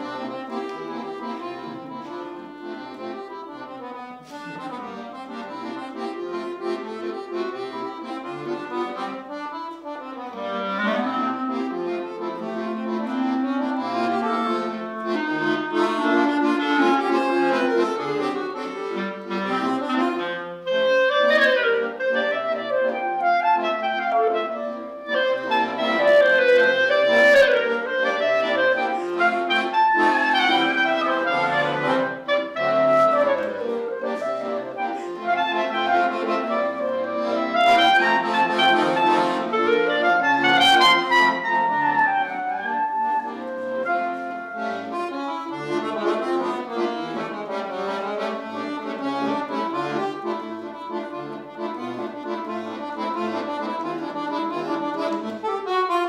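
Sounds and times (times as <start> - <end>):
accordion chords: 0.0 - 56.0
clarinet melody: 0.0 - 56.0.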